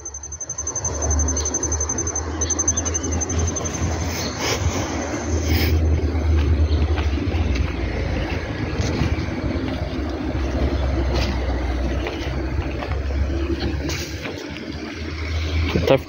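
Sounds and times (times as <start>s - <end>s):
wind buffeting a microphone: 3.1s - 16.0s.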